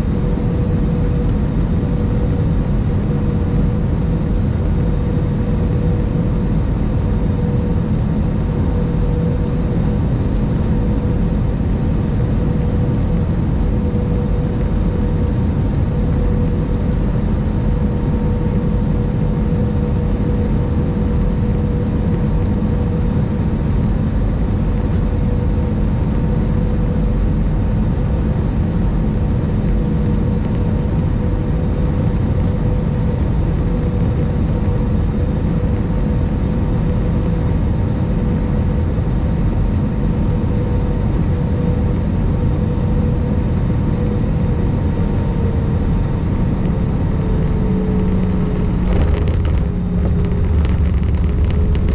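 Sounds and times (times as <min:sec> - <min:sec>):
aircraft engines humming: 0:00.0 - 0:51.9
mid-pitched drone: 0:00.0 - 0:51.9.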